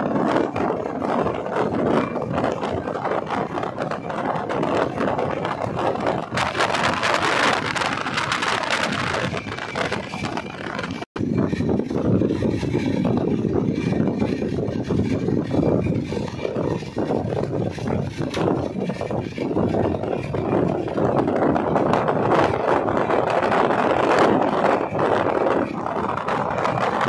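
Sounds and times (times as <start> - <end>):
train wheels rumbling on rails: 0.0 - 27.0
wind: 0.0 - 27.0.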